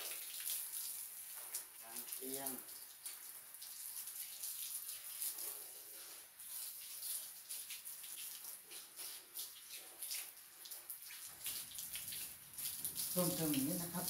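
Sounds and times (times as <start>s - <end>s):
hose water spattering on mesh: 0.0s - 14.0s.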